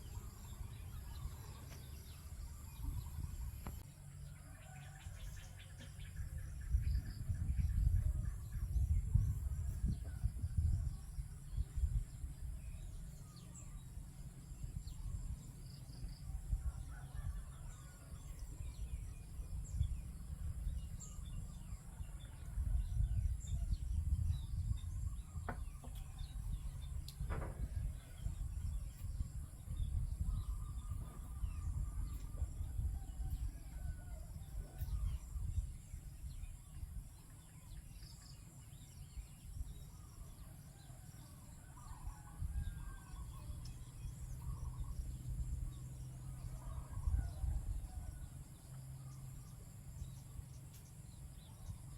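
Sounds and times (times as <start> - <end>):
bird calls and chirps: 0.0 - 51.9
constant low rumble: 0.0 - 51.9.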